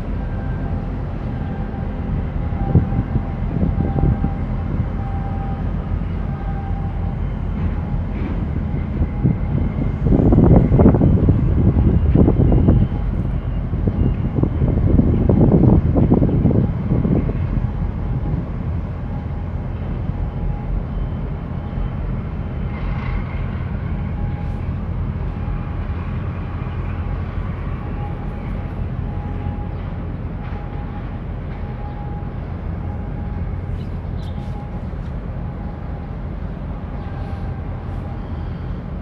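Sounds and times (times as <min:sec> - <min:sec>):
large ship low rumble: 0:00.0 - 0:39.0
wind buffeting microphone: 0:00.0 - 0:39.0.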